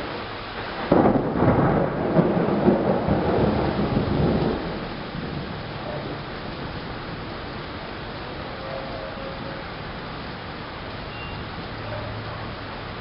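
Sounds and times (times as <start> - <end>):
rain hissing: 0.0 - 13.0
thunder rumbling: 0.1 - 13.0.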